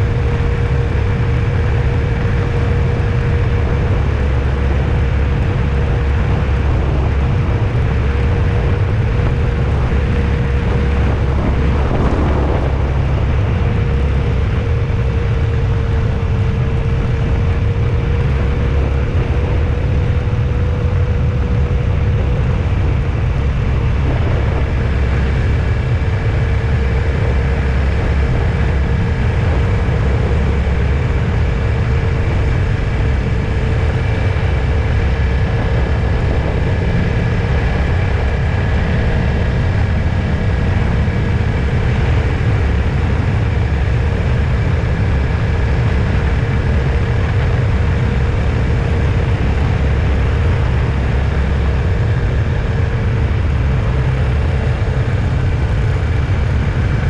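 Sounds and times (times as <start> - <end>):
engine and tyre rumble: 0.0 - 57.0
faint steady whine: 0.0 - 57.0.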